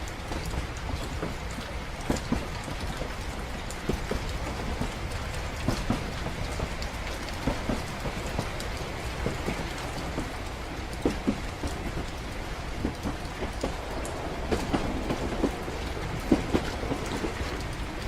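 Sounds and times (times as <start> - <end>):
rain pattering: 0.0 - 18.0
train rumbling: 0.0 - 18.0.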